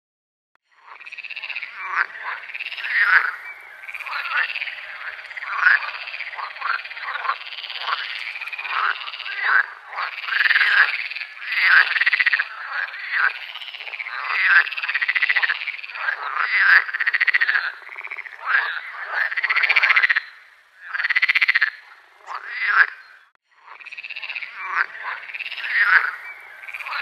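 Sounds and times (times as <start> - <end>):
chorus of frogs calling: 0.7 - 27.0.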